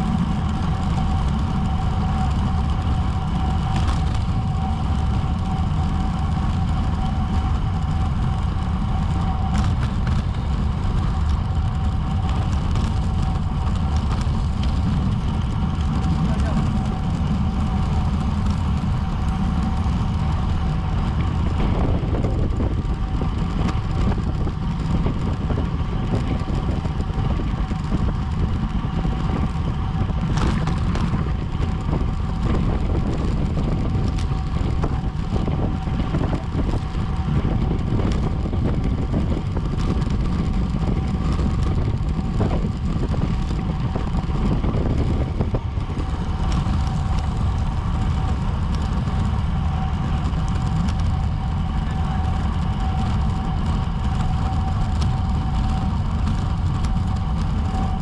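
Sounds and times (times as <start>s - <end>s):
bicycle road noise: 0.0s - 58.0s
wind rush: 0.0s - 58.0s.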